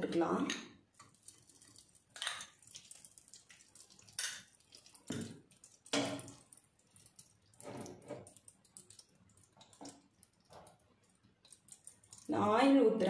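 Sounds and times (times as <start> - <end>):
ghee spitting in hot pot: 0.9 - 12.7.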